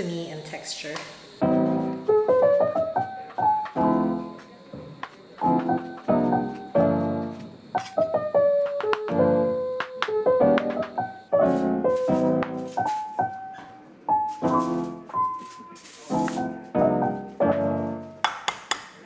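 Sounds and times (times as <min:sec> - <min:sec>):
gentle piano music: 0:01.4 - 0:18.2.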